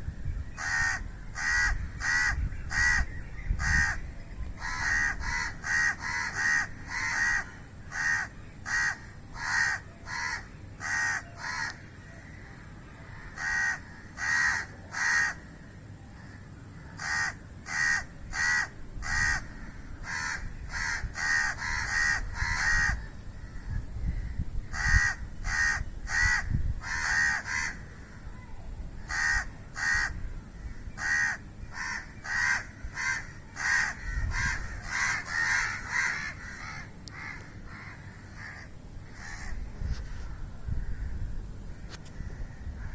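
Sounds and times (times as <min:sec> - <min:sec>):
crows cawing: 0:00.6 - 0:28.3, 0:29.0 - 0:39.6, 0:42.0 - 0:42.9.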